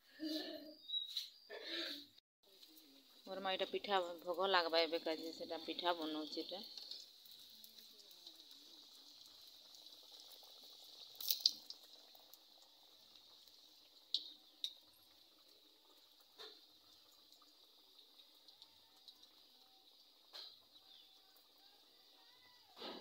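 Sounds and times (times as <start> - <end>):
batter sizzling in oil: 2.5 - 23.0.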